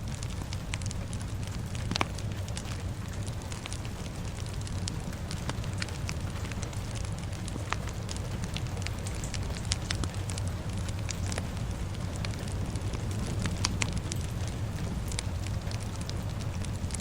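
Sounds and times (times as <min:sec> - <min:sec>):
rain: 0:00.0 - 0:17.0
wood fire crackling: 0:00.0 - 0:17.0.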